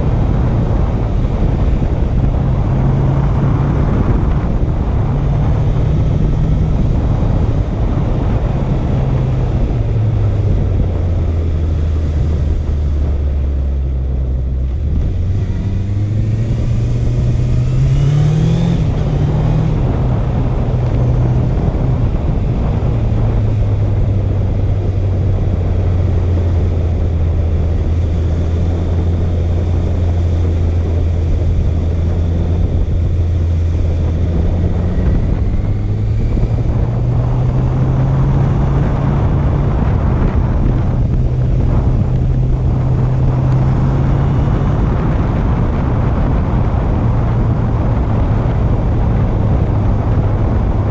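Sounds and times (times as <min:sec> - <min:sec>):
motorcycle engine on the move: 0:00.0 - 0:50.9
wind noise: 0:00.0 - 0:50.9.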